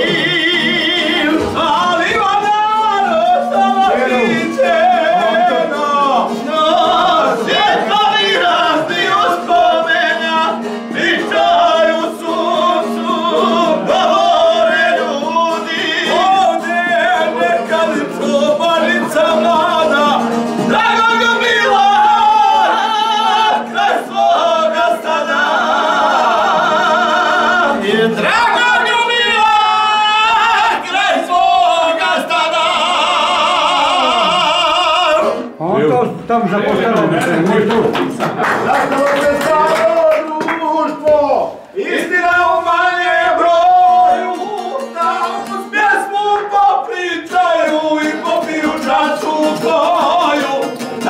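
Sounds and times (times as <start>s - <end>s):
men singing folk song in harmony: 0.0s - 35.6s, 39.2s - 51.0s.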